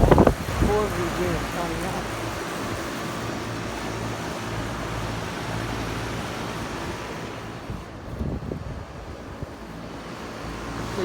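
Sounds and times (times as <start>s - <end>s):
compressor humming: 0.0s - 11.0s
fan rushing air: 0.0s - 11.0s.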